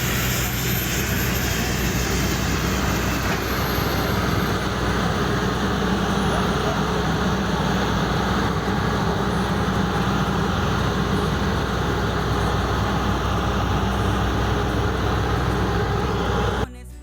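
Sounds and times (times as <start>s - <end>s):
drilling rig heavy engine: 0.0s - 16.7s.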